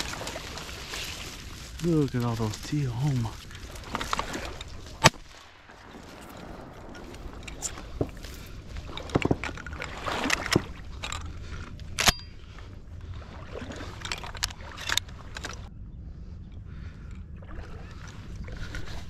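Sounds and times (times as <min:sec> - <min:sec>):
water sloshing: 0:00.0 - 0:15.7, 0:17.1 - 0:19.0.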